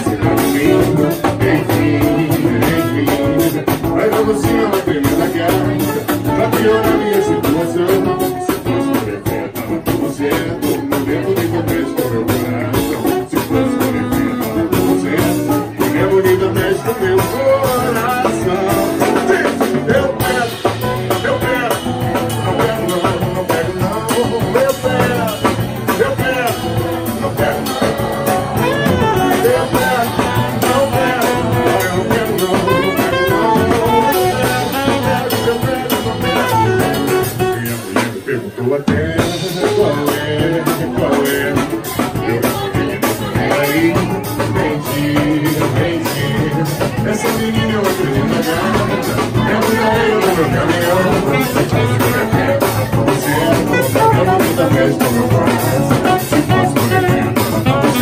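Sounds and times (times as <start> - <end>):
drums: 0.0 - 58.0
guitar: 0.0 - 58.0
saxophone: 0.0 - 58.0.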